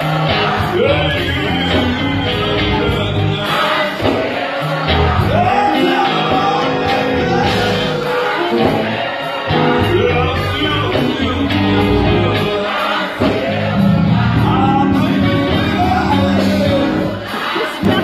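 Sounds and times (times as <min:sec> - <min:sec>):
gospel singing with band: 0:00.0 - 0:18.0.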